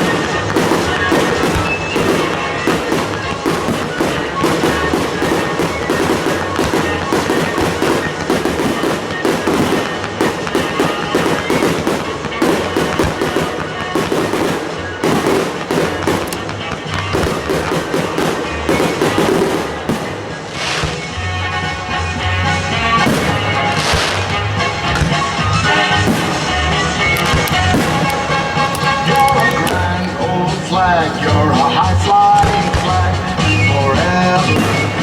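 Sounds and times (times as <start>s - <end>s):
fireworks and firecrackers banging: 0.0s - 35.0s
music playing: 0.0s - 35.0s.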